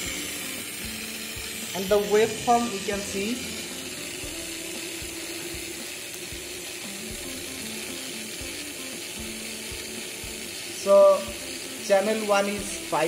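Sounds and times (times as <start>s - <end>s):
small motor and fan whirring: 0.0s - 13.0s.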